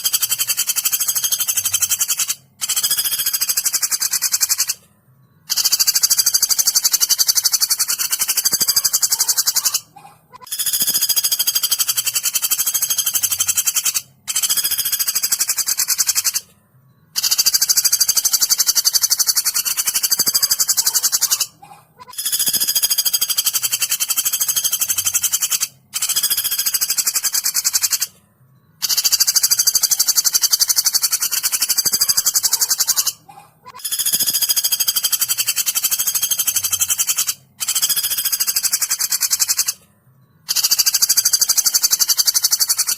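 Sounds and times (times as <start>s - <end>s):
woodpecker rattling trills: 0.0s - 4.8s, 5.4s - 39.8s, 40.4s - 42.9s.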